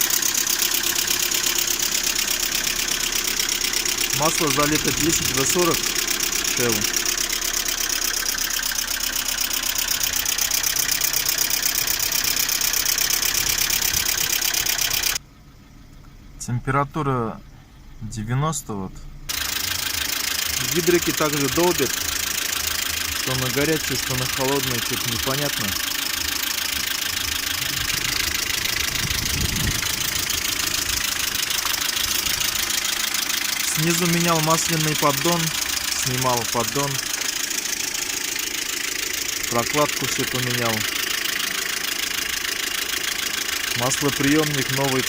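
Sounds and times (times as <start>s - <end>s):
rapid valve lifter ticking: 0.0s - 15.2s, 19.3s - 45.0s
car engine idling: 0.0s - 45.0s.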